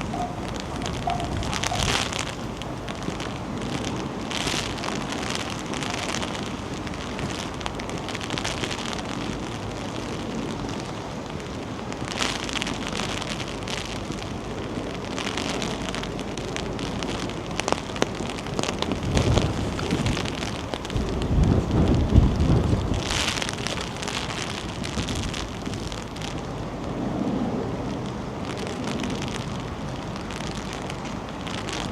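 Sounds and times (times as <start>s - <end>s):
steady rain pattering: 0.0s - 31.9s
wind buffeting microphone: 0.0s - 31.9s.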